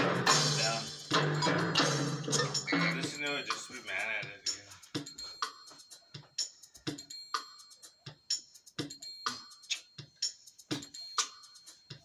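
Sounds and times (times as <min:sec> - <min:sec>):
music with drum-machine beat: 0:00.0 - 0:12.0.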